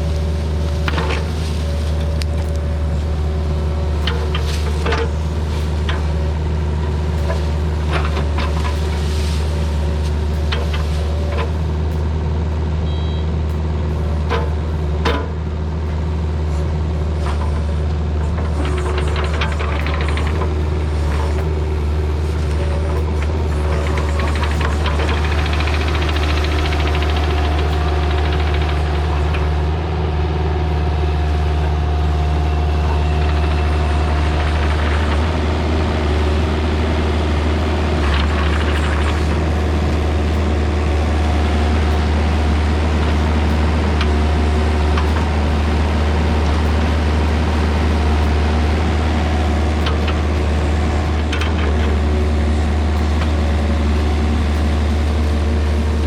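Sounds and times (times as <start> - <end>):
earthmoving machine engine running: 0.0 - 56.0.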